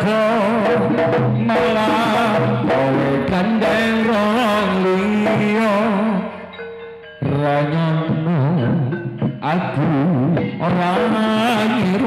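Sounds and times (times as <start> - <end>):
wavering ornamented melody: 1.6 - 12.0.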